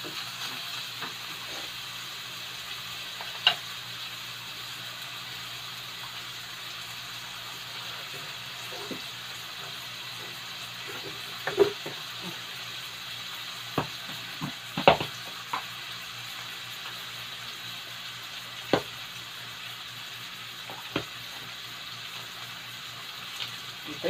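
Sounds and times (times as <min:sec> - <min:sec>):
onion and garlic sizzling in oil: 0:00.0 - 0:24.0.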